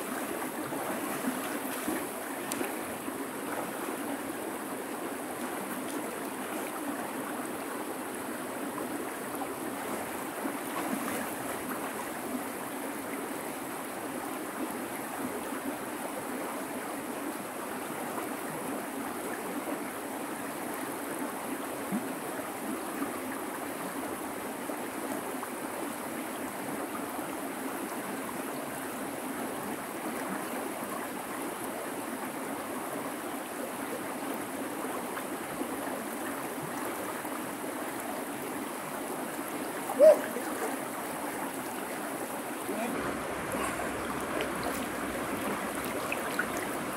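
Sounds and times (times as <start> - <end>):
river water rushing: 0.0 - 18.6, 27.6 - 46.9.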